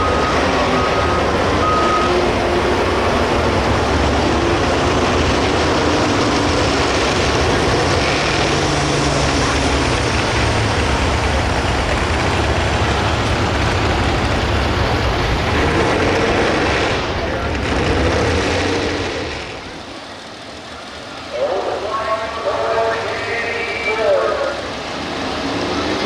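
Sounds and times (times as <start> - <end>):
diesel tractor engine at high throttle: 0.0 - 26.0.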